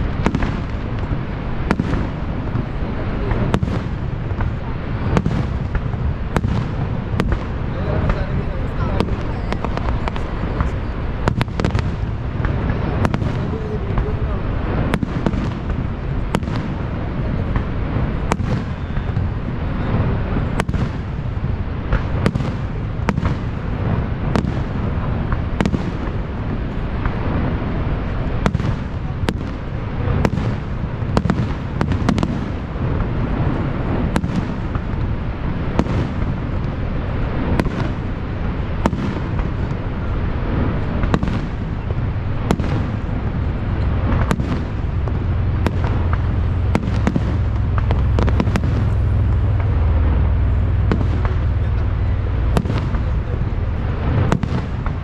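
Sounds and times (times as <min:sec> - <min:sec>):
fireworks bangs: 0:00.0 - 0:55.0
steady low rumble: 0:00.0 - 0:55.0.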